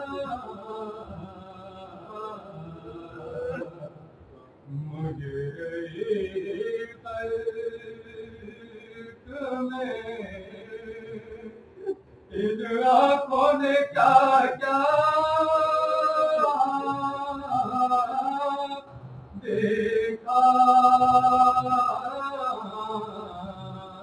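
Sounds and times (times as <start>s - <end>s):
man chanting unaccompanied: 0.0s - 4.0s, 4.7s - 11.6s, 12.3s - 24.0s.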